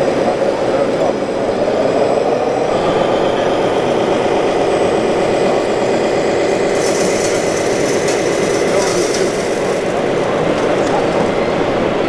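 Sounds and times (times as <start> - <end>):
model truck mechanical drone: 0.0 - 12.0.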